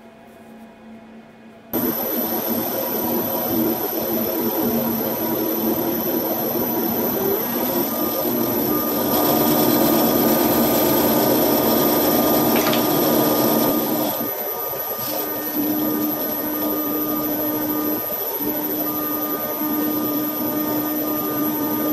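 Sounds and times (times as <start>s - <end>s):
lathe motor whine: 1.8s - 21.9s.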